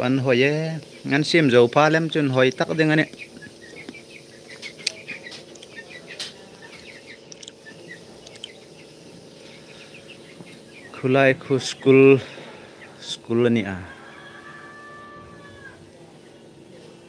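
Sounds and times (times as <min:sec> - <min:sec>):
small birds chirping: 0:00.0 - 0:14.4, 0:15.4 - 0:17.0.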